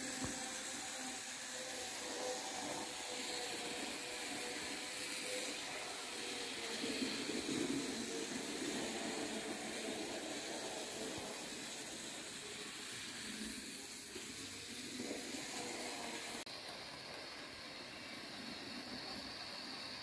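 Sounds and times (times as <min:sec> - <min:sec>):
model train motor whirring: 0:00.0 - 0:20.0.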